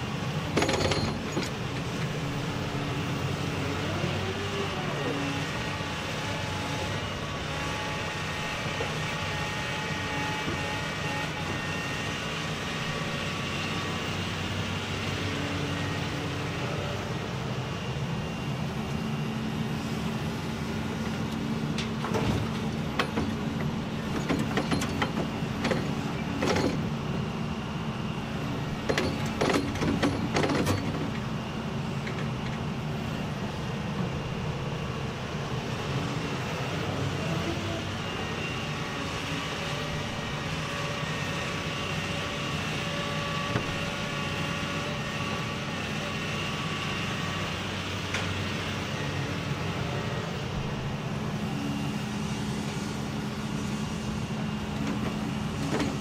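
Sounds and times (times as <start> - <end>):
excavator diesel engine: 0.0 - 56.0
hydraulics whining: 0.0 - 56.0.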